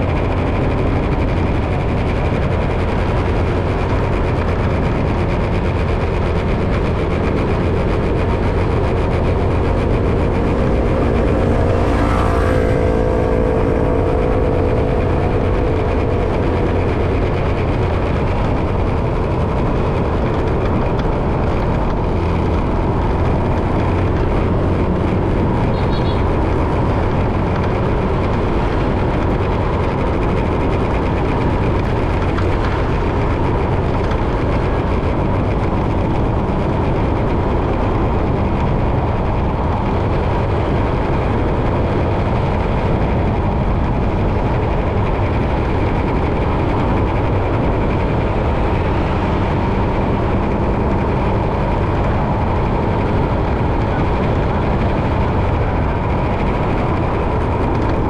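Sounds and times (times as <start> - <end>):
vehicle road rumble: 0.0 - 58.0.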